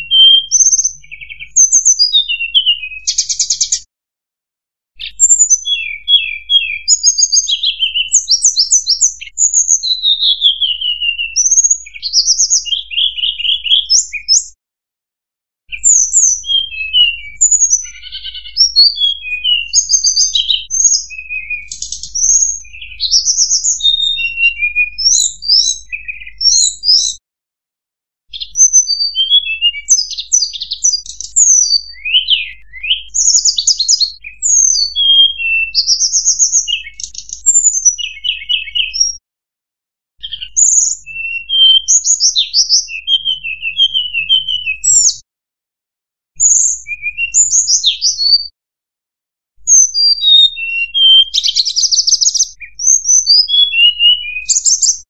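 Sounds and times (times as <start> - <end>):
bird song whistles and trills: 0.0 - 3.9, 5.0 - 14.6, 15.7 - 27.2, 28.3 - 39.2, 40.2 - 45.2, 46.3 - 48.6, 49.6 - 55.0.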